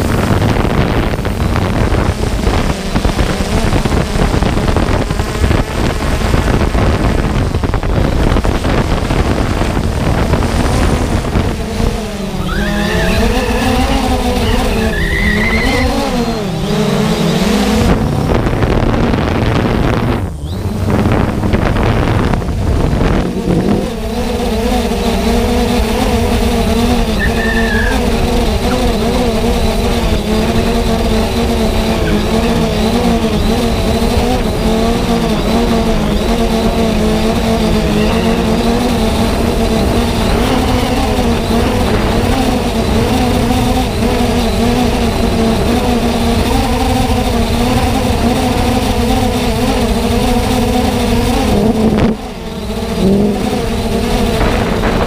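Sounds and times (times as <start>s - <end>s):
drone propellers whirring: 0.0s - 55.0s
wind rush on microphone: 0.0s - 55.0s.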